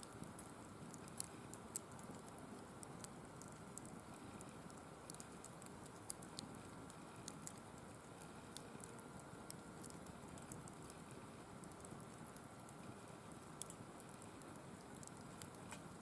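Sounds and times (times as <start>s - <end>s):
firewood crackling: 0.0s - 16.0s.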